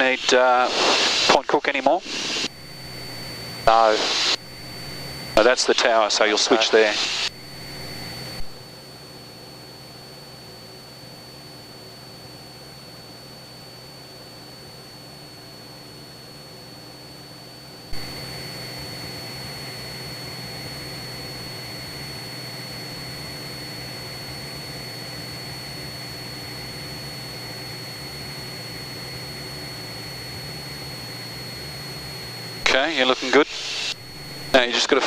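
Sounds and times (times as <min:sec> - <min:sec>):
engine and propeller drone: 0:00.0 - 0:35.0
high-pitched whine: 0:00.0 - 0:35.0.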